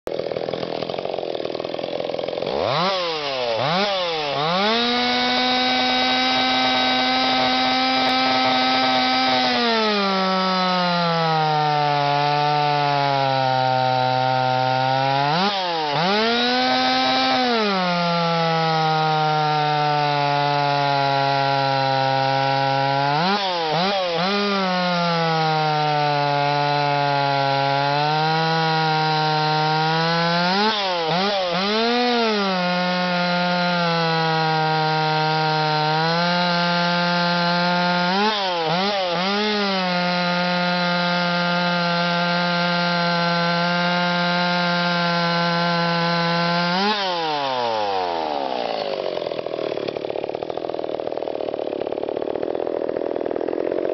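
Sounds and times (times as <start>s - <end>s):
chainsaw cutting log: 0.0s - 53.9s.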